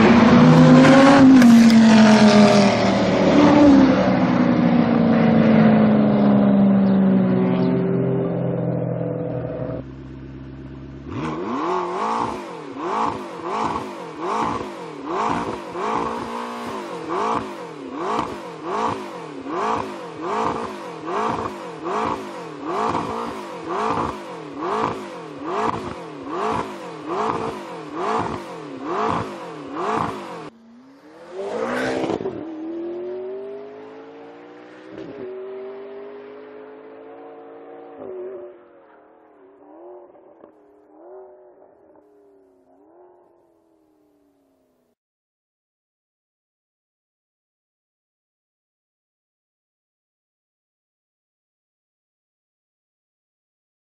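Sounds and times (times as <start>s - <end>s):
car engine revving: 0.0s - 43.3s.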